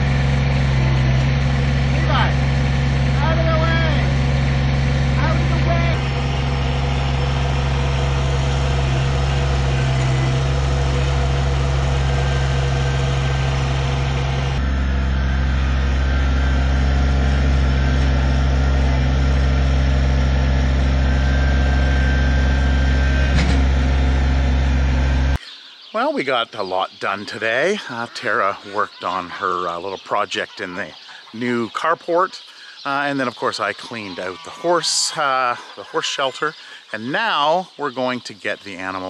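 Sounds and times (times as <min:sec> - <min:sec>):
tractor diesel engine running: 0:00.0 - 0:25.4, 0:26.0 - 0:39.0.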